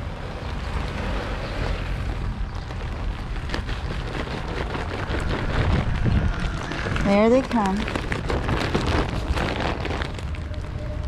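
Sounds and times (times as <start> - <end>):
wind buffeting microphone: 0.2 - 11.0.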